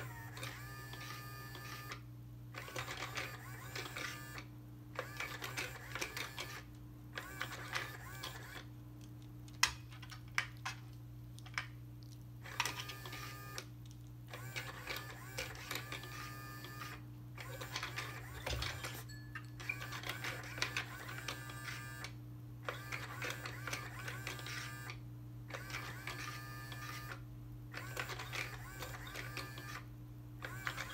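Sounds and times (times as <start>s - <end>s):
toy motor whirring: 0.0s - 2.0s, 2.6s - 8.7s, 12.4s - 13.7s, 14.3s - 22.1s, 22.7s - 29.8s, 30.4s - 30.9s.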